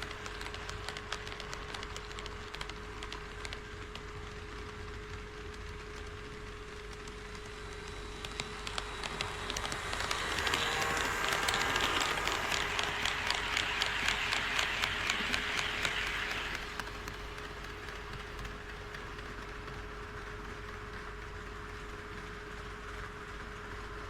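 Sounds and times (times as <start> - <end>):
model train wheels clicking: 0.0 - 24.0.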